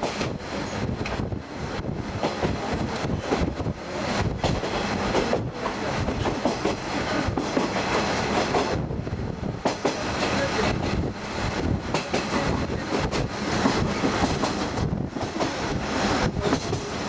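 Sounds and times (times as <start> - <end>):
train wheels clattering on rails: 0.0 - 1.4, 2.1 - 8.9, 9.5 - 17.0
train running roar: 0.0 - 17.0.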